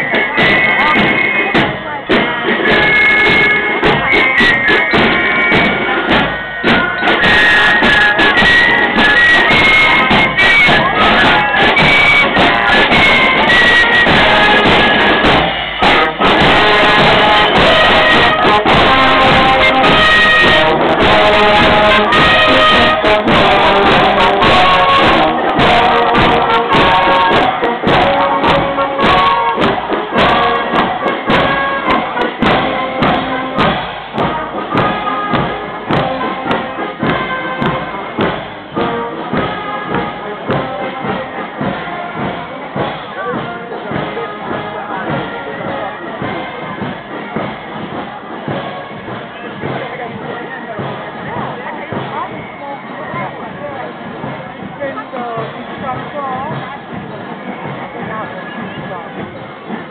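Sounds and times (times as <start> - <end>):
brass band playing: 0.0 - 59.9
fife melody: 0.0 - 59.9
snare drums: 0.0 - 59.9.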